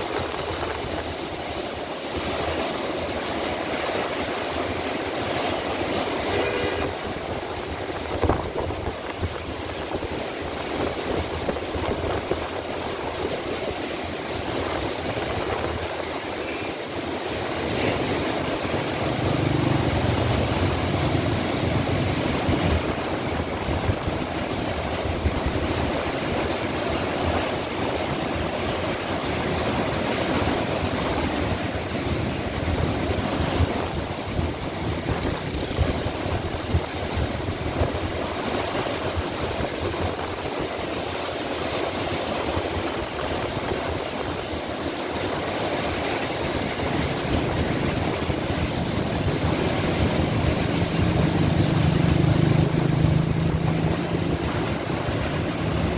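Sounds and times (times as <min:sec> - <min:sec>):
water rushing over a fall: 0:00.0 - 0:55.9.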